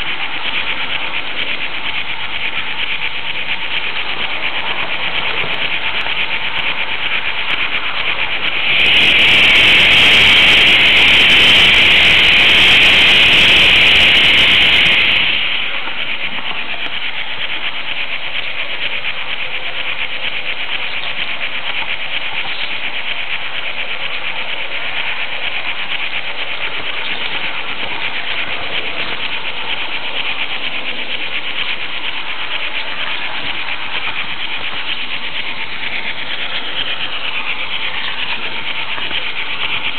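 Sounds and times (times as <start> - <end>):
model train running: 0.0 - 39.9.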